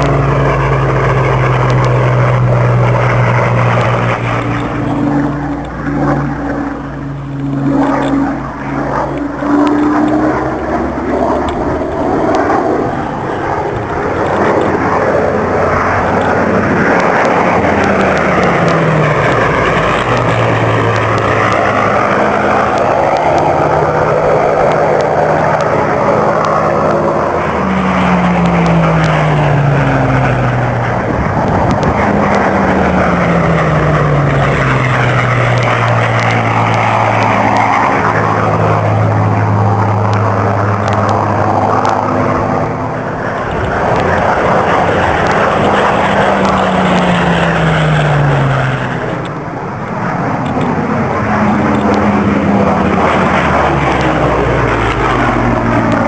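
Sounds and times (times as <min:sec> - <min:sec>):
propeller aircraft engine flypast: 0:00.0 - 0:56.0.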